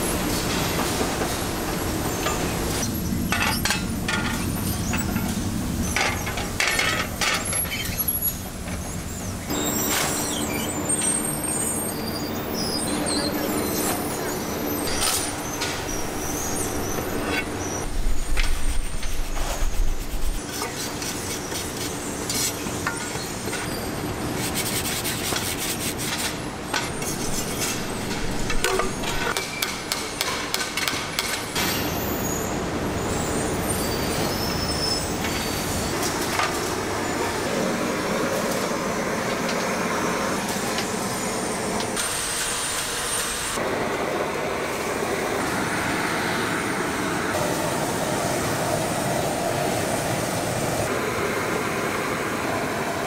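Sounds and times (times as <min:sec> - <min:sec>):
factory machinery running: 0:00.0 - 0:53.0.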